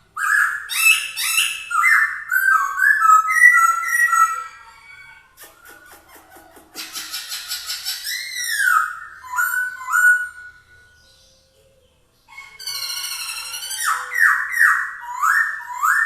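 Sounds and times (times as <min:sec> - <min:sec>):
bird singing whistled notes: 0:00.2 - 0:04.6, 0:07.2 - 0:16.0.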